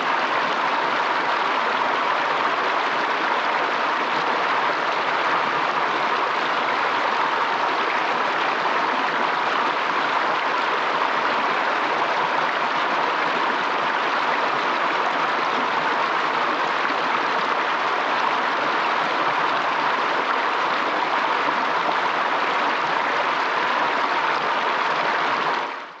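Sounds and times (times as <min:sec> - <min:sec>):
stream rushing: 0:00.0 - 0:25.8.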